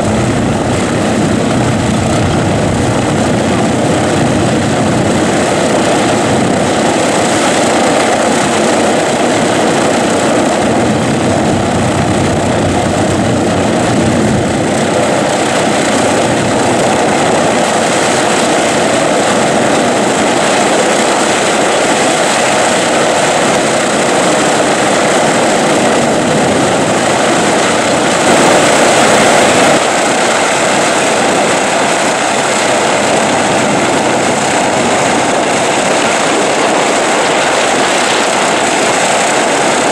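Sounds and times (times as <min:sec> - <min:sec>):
propeller noise: 0:00.0 - 0:39.9
radial aircraft engines droning: 0:00.0 - 0:39.9.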